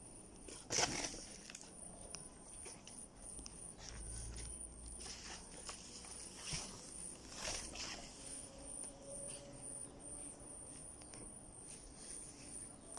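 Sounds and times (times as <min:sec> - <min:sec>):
insects chirping trill: 0:00.0 - 0:12.9
rustling plants: 0:00.2 - 0:12.9.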